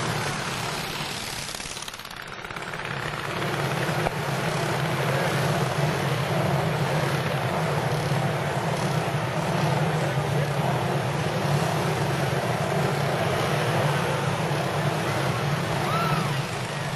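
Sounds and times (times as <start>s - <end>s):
motorcycle engines racing: 0.0s - 16.9s.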